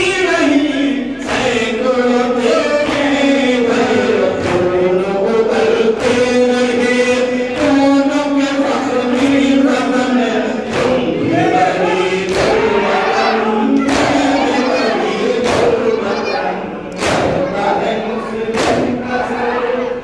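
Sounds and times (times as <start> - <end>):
crowd of men chanting: 0.0 - 20.0
man chanting over a microphone: 0.0 - 20.0
rhythmic chest-beating strikes: 0.0 - 20.0.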